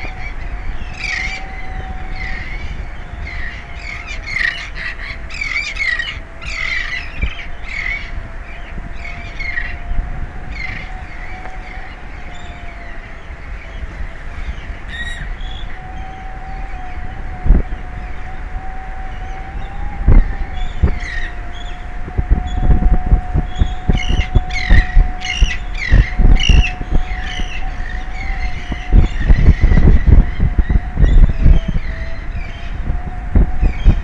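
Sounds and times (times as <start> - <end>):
seabirds calling: 0.0 - 22.8, 23.4 - 32.9
faint steady hum: 0.0 - 34.0
low wind rumble: 0.0 - 34.0.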